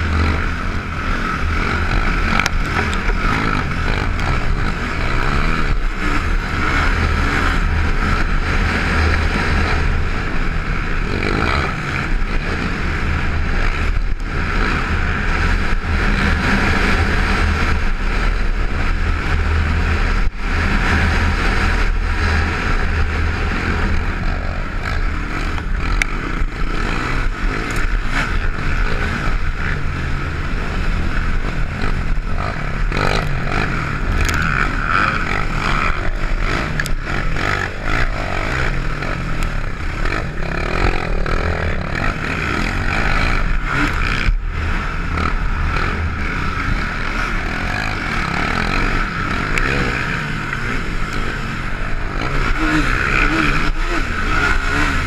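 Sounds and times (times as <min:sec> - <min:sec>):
quad engine running hard: 0:00.0 - 0:55.0.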